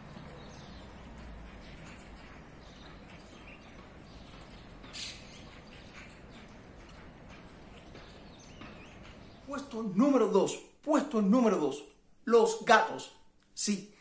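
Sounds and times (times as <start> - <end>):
faint outdoor ambience: 0.0 - 14.0
small birds chirping: 0.0 - 14.0.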